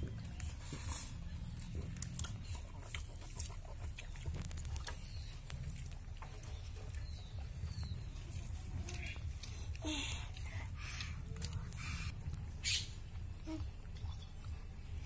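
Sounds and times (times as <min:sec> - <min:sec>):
chewing and lip-smacking: 0:00.0 - 0:15.0
low rumble: 0:00.0 - 0:15.0
fingers clicking on leaf: 0:01.3 - 0:14.6.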